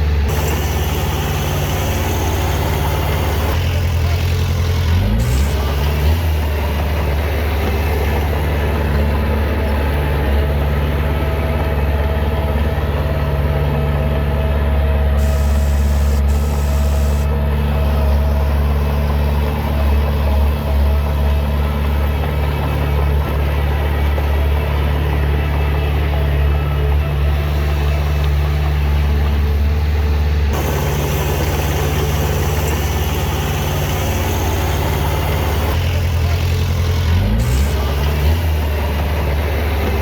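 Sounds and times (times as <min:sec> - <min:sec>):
heavy diesel engine running: 0:00.0 - 0:40.0.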